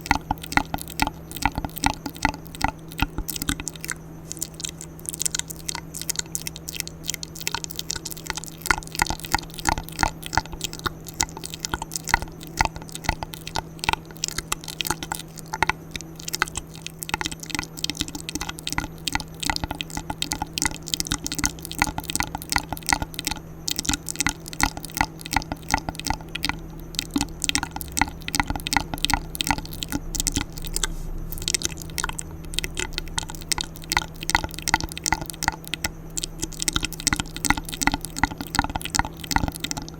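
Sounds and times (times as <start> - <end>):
steady low hum: 0.0 - 39.9
wet mouth clicks and smacks: 0.0 - 39.9.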